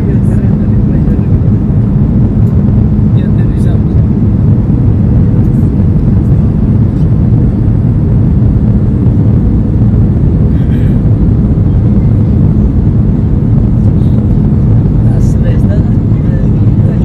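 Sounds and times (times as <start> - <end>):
aircraft cabin engine rumble: 0.0 - 17.0
faint steady hum: 0.0 - 17.0.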